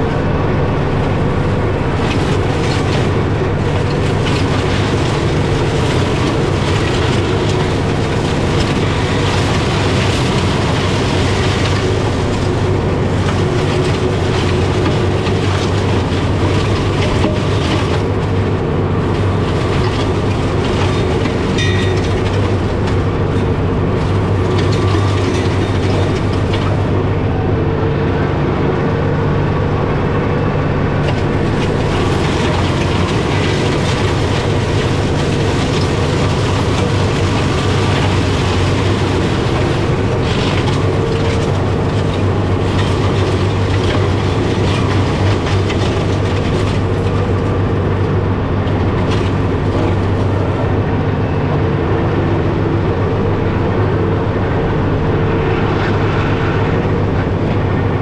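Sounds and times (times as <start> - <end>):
flail mulcher shredding brush: 0.0 - 58.0
tractor diesel engine running: 0.0 - 58.0.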